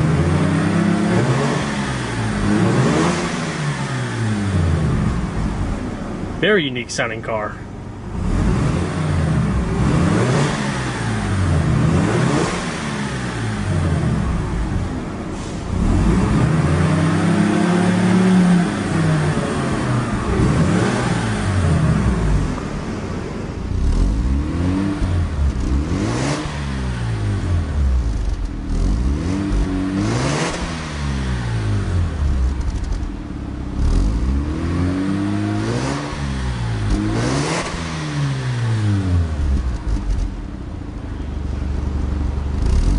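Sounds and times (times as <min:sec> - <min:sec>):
rotary engine revving: 0:00.0 - 0:05.3, 0:08.1 - 0:22.9, 0:23.7 - 0:40.4, 0:42.5 - 0:42.9.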